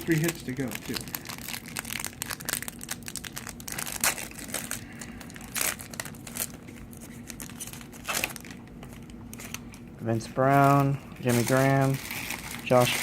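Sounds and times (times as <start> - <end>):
cards and foil wrapper rustling: 0.0 - 13.0.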